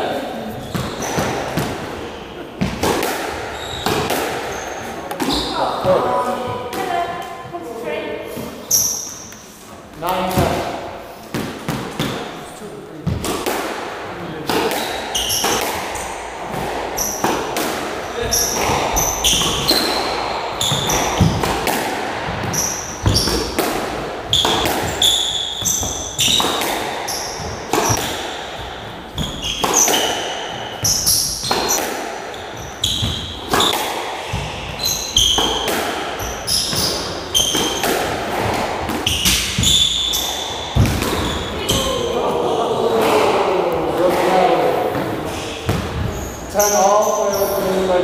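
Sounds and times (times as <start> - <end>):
squash ball hitting rackets and walls: 0.0 - 7.7, 8.3 - 48.0
shoes squeaking on wooden floor: 0.5 - 9.7, 14.6 - 48.0.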